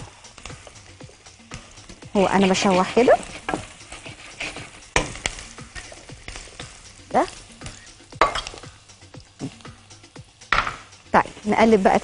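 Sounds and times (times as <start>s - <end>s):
onion sizzling in a pan: 0.0s - 12.0s.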